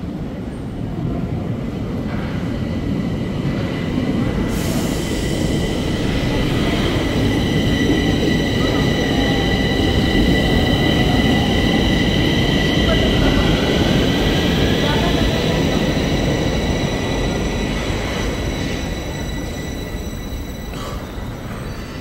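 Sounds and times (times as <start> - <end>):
metro train rumbling: 0.0 - 22.0
train high whine: 2.1 - 22.0.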